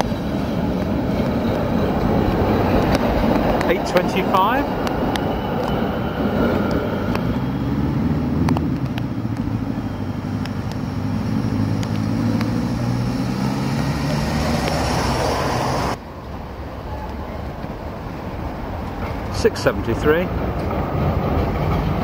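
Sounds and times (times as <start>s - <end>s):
traffic noise: 0.0s - 22.0s
tram motor hum and rumble: 0.0s - 22.0s.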